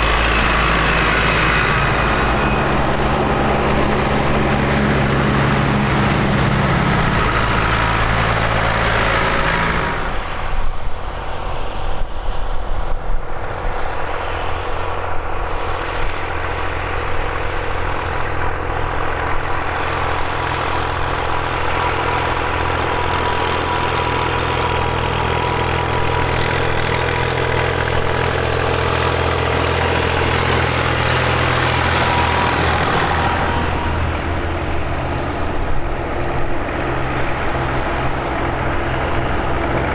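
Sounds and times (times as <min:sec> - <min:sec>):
tractor engine passing: 0:00.0 - 0:39.9
tractor engines droning: 0:00.0 - 0:39.9.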